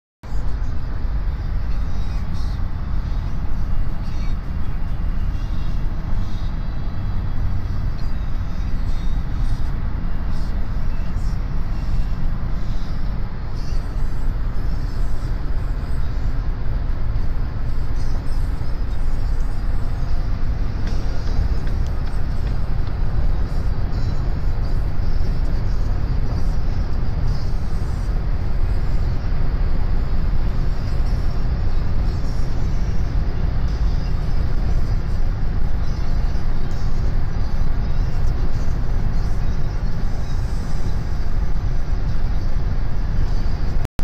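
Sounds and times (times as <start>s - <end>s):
car road and engine rumble: 0.2s - 44.0s.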